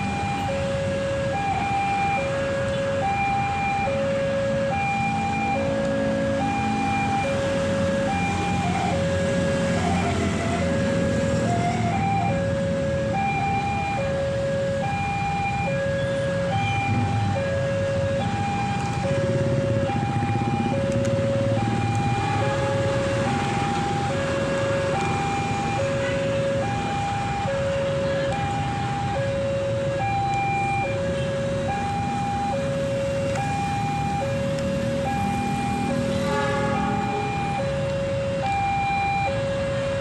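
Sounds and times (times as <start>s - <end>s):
two-tone level-crossing siren: 0.0s - 40.0s.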